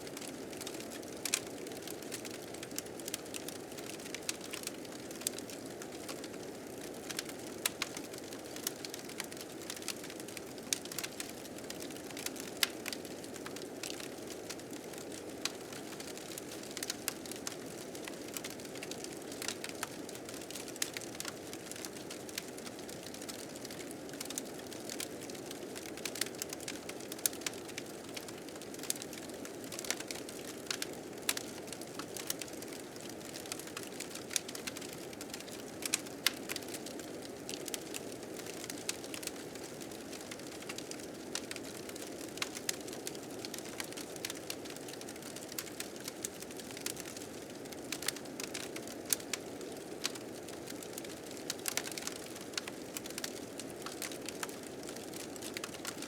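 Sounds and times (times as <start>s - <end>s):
fire crackling and popping: 0.1s - 56.0s.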